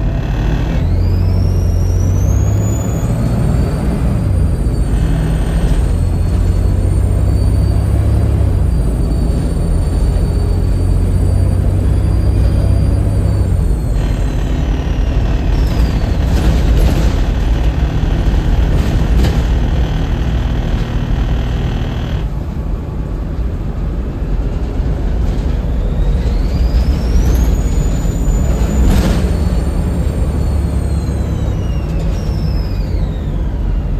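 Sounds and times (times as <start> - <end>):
turbocharger whistle: 0.0 - 22.4, 25.3 - 33.9
bus diesel engine under load: 0.0 - 33.9.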